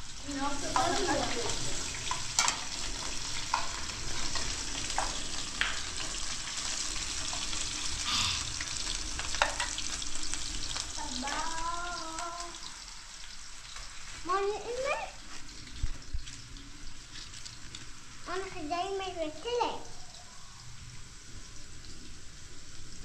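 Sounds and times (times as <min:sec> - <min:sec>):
potatoes sizzling in hot oil: 0:00.0 - 0:23.0.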